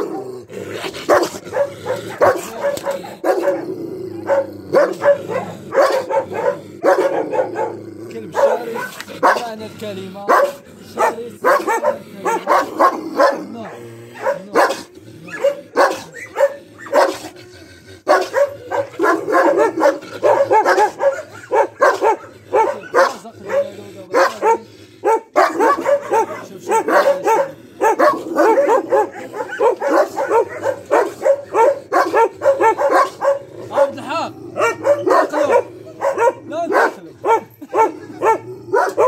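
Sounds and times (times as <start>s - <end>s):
dogs barking aggressively: 0.0s - 39.0s.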